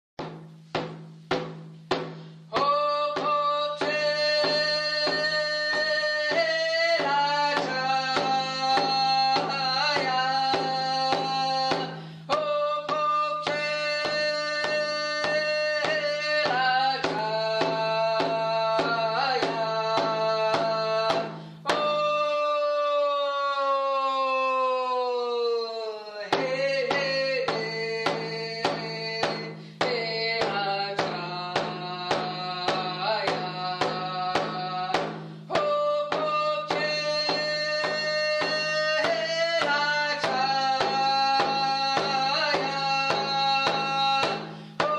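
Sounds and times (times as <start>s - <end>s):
steady drumbeat: 0.2s - 23.1s, 26.2s - 44.9s.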